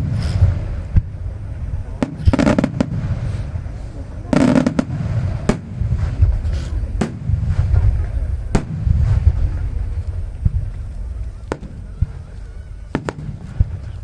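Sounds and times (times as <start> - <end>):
fireworks booming: 0.0 - 14.0
fireworks sharp cracks: 0.0 - 14.0
low rumble of echoing bursts: 0.0 - 14.0.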